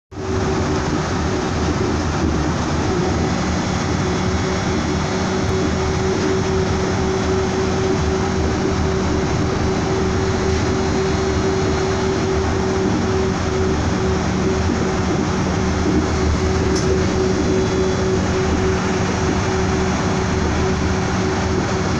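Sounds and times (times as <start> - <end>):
constant hum: 0.1 - 21.9
train cabin rumble: 0.1 - 21.9.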